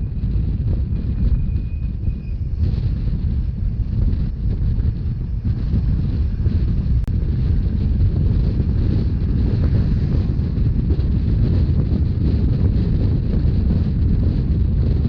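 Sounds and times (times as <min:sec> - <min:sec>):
train rumbling on track: 0:00.0 - 0:15.0
wind buffeting microphone: 0:00.0 - 0:15.0.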